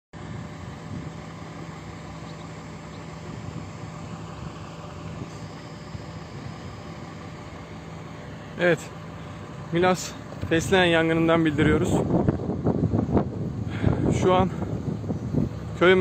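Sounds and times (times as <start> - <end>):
vehicle engine idling: 0.2 - 16.0.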